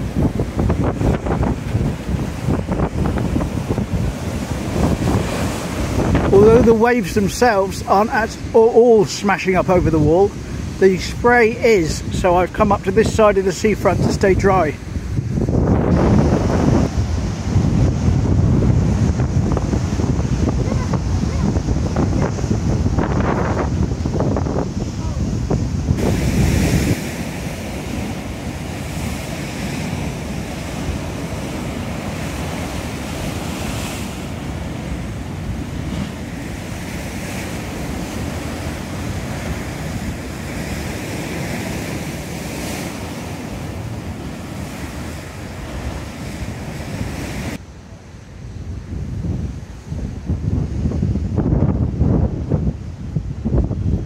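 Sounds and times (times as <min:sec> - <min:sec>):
waves breaking against seawall: 0:00.0 - 0:48.6
wind buffeting microphone: 0:00.0 - 0:54.0.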